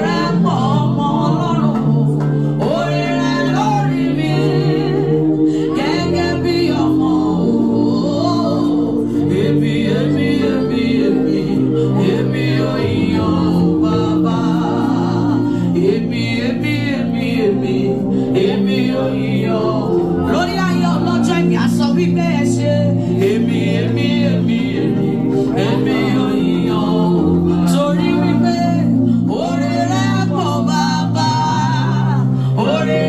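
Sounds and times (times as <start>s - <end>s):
sustained backing chords: 0.0s - 33.0s.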